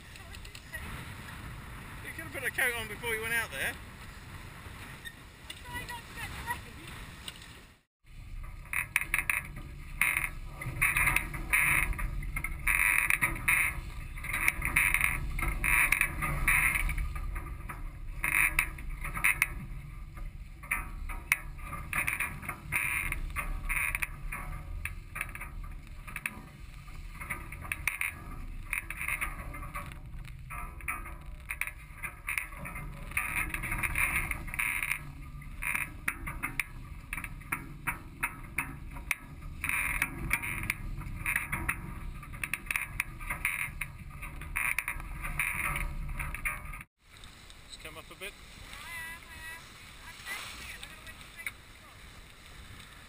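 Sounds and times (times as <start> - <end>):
wind buffeting microphone: 0.0 - 46.9
water rushing along hulls: 0.0 - 53.0.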